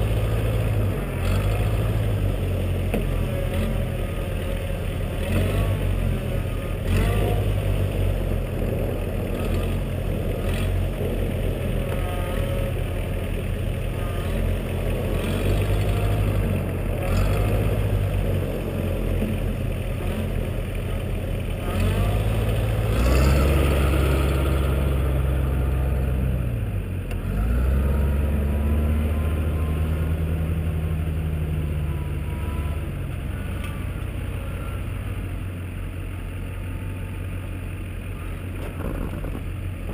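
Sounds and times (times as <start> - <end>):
diesel engines idling: 0.0 - 39.9
tractor engine revving: 0.0 - 39.9.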